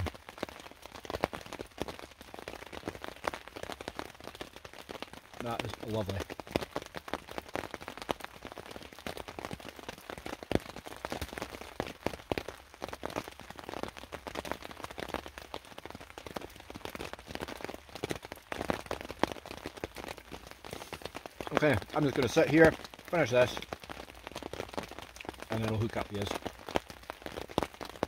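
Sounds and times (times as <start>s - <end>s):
rain dripping and pattering: 0.0s - 28.0s.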